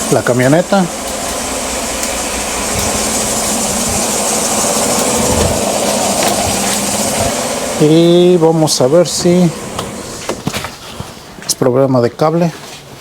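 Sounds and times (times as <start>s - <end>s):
engine idling with misfire: 0.0s - 10.8s.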